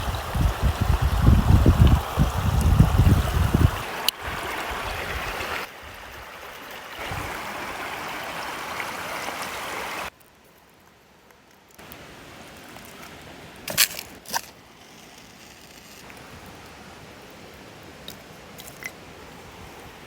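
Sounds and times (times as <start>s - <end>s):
stream water rushing: 0.0s - 10.1s, 11.8s - 14.8s, 16.0s - 20.0s.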